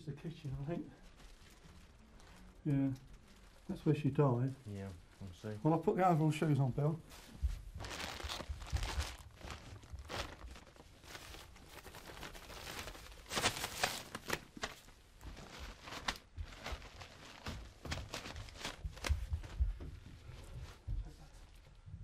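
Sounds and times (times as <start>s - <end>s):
plastic overshoes crinkling: 0.2s - 19.8s.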